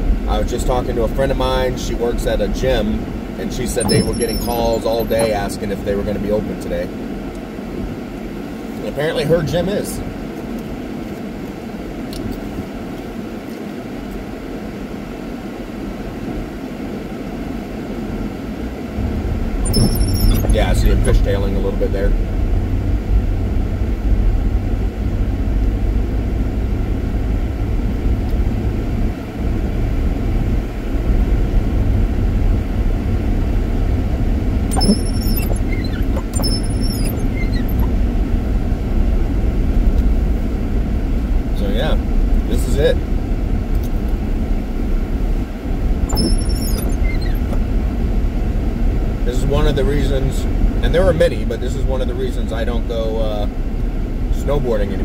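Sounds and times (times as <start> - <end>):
tyres and engine rumbling: 0.0 - 10.1, 18.5 - 55.0.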